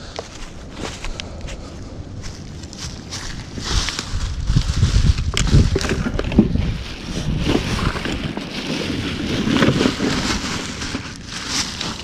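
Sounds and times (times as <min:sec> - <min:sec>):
rustles: 0:00.0 - 0:12.0
wind buffeting microphone: 0:00.0 - 0:12.0.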